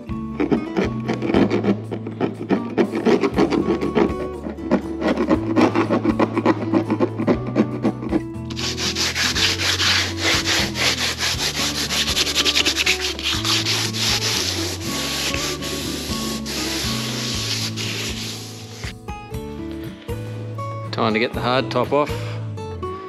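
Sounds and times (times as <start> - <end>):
background music with bass line: 0.0 - 23.0
sanding plastic: 0.4 - 18.9.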